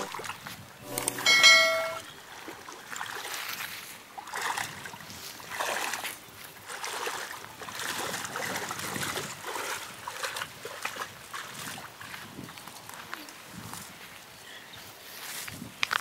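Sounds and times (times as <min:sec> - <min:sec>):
wading through shallow water: 0:00.0 - 0:15.8.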